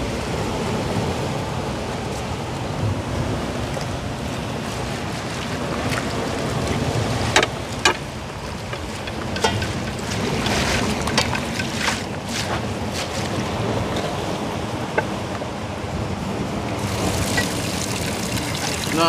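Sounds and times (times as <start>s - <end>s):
sea surf: 0.0s - 19.0s
wind buffeting microphone: 0.0s - 19.0s.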